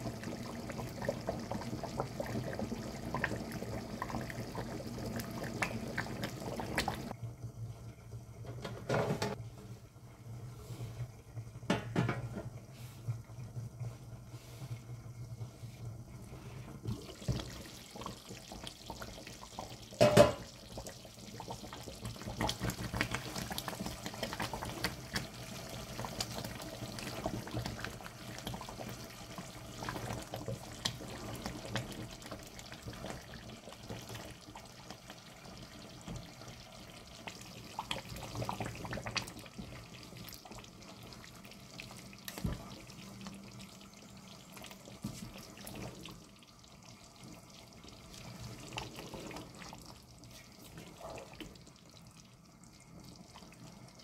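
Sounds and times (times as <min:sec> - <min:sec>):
curry bubbling in pot: 0:00.0 - 0:08.3, 0:11.2 - 0:54.0.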